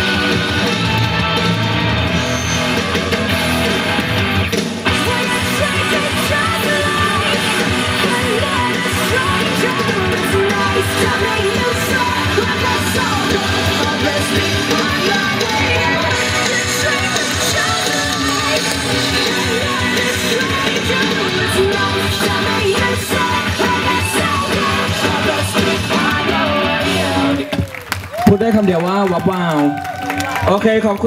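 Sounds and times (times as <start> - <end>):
loud rock music with vocals: 0.0 - 27.7.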